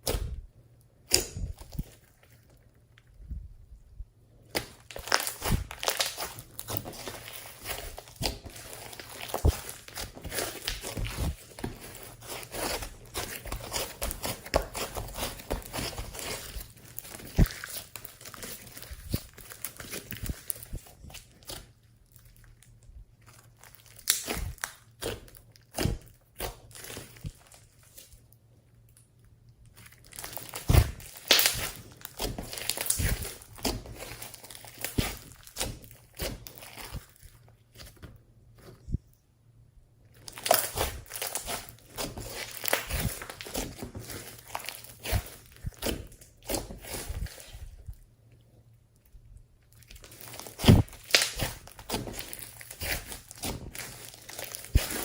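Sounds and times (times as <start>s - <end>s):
slime squished by hand: 0.0s - 2.6s, 4.4s - 28.1s, 29.7s - 39.0s, 40.1s - 48.0s, 49.7s - 55.0s.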